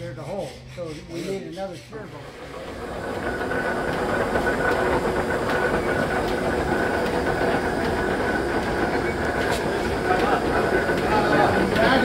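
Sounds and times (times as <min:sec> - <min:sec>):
lathe running: 0:00.7 - 0:12.0
high mechanical whine: 0:01.8 - 0:12.0.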